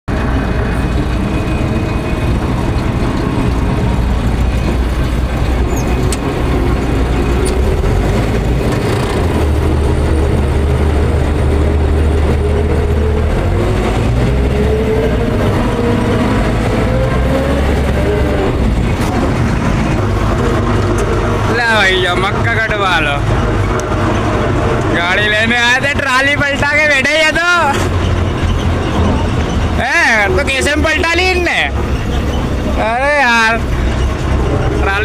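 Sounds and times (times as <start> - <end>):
tractor diesel engine running: 0.1 - 35.0.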